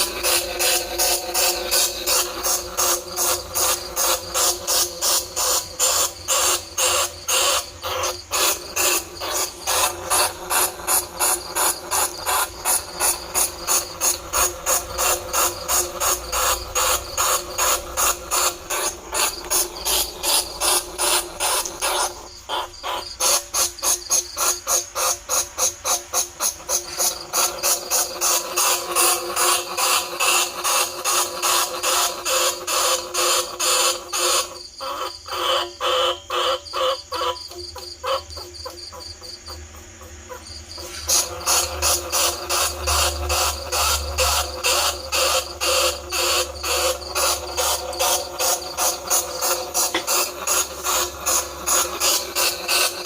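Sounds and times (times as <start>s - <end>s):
rat squeaking: 0.0s - 53.0s.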